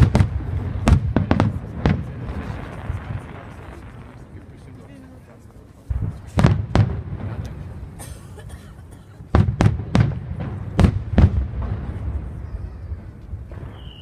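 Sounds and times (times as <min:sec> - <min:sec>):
fireworks sharp bangs: 0:00.0 - 0:05.2, 0:05.8 - 0:14.0.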